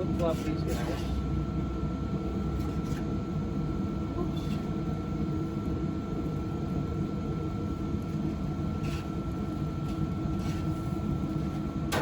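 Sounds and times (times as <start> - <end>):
grill fan rumble and whine: 0.0 - 12.0.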